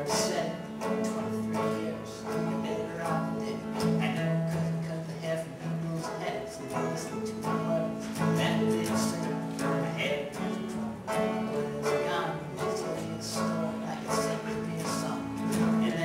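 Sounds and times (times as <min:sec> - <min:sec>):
acoustic guitar and banjo playing: 0:00.0 - 0:16.0
man singing long notes: 0:00.0 - 0:16.0.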